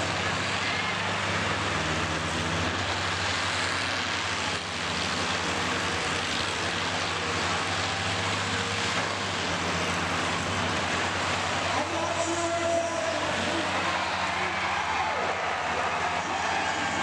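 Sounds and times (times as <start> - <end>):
combine harvester engines droning: 0.0 - 17.0
noisy outdoor wash: 0.0 - 17.0.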